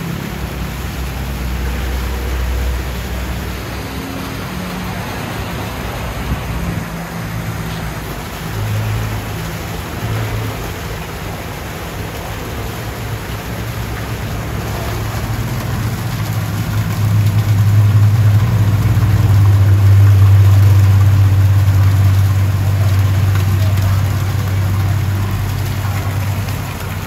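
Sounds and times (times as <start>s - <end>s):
aquarium pumps humming: 0.0s - 27.0s
water bubbling: 0.0s - 27.0s.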